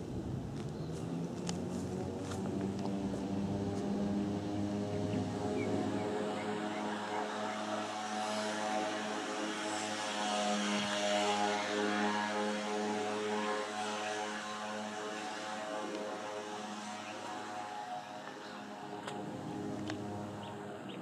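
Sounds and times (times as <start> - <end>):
jet airliner engine drone: 0.0 - 21.0.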